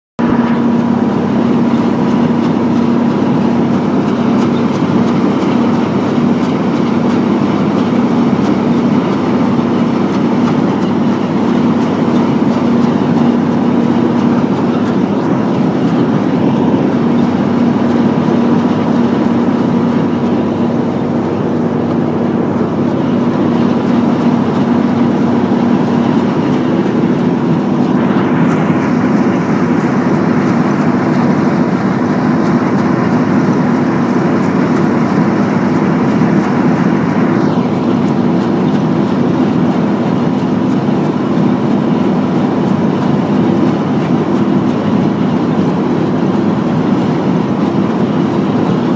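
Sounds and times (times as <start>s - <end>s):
combine harvester droning: 0.2s - 48.9s.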